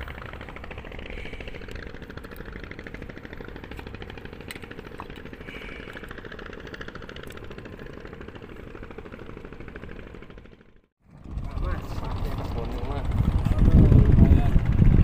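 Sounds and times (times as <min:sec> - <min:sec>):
motor running with rapid pulse: 0:00.0 - 0:15.0.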